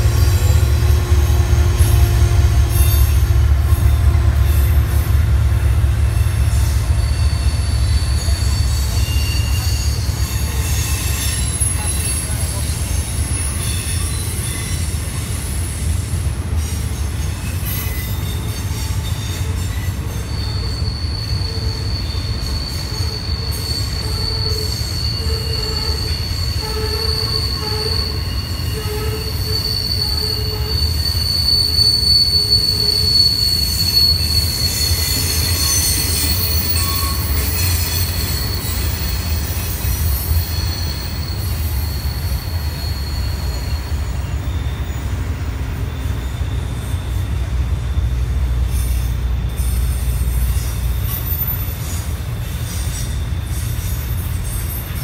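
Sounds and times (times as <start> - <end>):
low rumble of passing train: 0.0 - 55.0
train wheels squealing on rails: 0.0 - 55.0.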